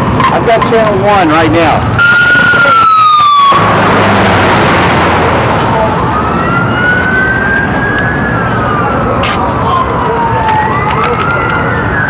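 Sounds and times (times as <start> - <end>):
emergency sirens wailing: 0.0 - 12.0
steady rush of noise: 0.0 - 12.0.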